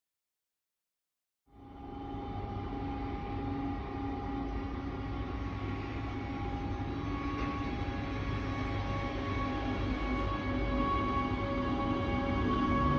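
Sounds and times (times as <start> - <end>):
electric locomotive rumbling: 1.5 - 12.9
humming tones from locomotive: 1.5 - 12.9.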